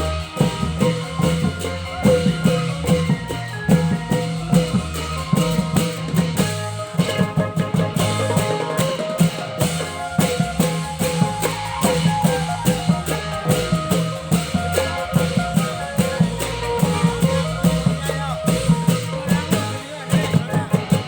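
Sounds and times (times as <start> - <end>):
cymbal strikes: 0.0 - 21.0
drum strikes: 0.0 - 21.0
steady bass: 0.0 - 21.0.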